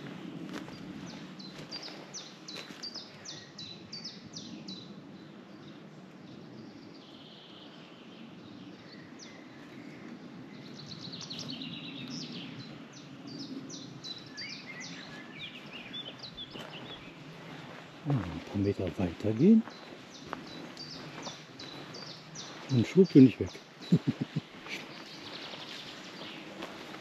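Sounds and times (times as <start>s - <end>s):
low steady background noise: 0.0s - 27.0s
songbirds singing: 0.0s - 27.0s.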